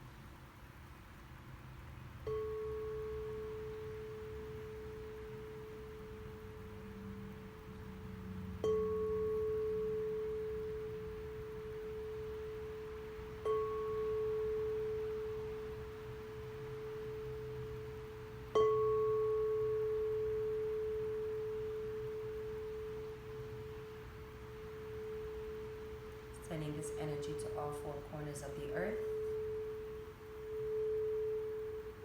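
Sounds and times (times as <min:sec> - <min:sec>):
sound-healing instrument ringing tone: 0:02.2 - 0:32.0.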